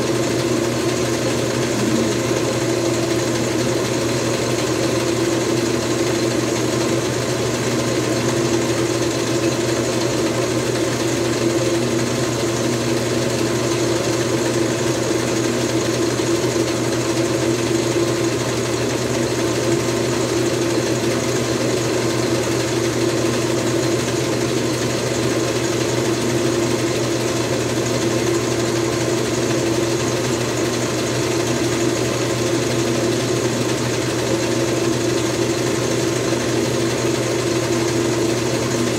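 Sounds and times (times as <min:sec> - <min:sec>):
metal lathe humming: 0:00.0 - 0:38.9.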